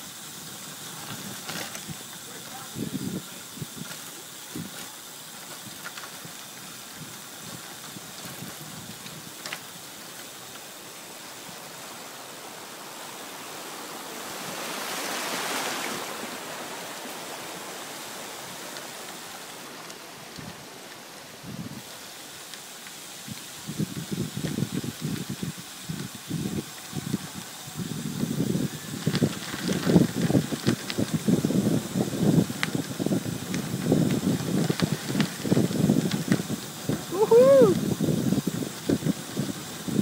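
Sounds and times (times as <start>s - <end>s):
bikes splashing through water: 0.0s - 40.0s
wind rush and tyre noise: 0.0s - 40.0s.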